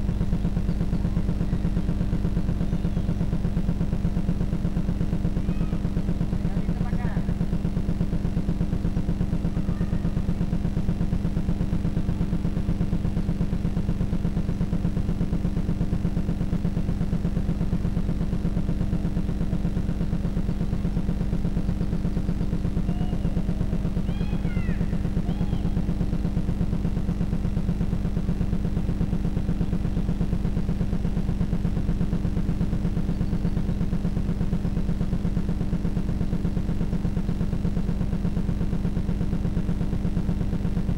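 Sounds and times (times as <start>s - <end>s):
pulsing mechanical drone: 0.0s - 40.9s.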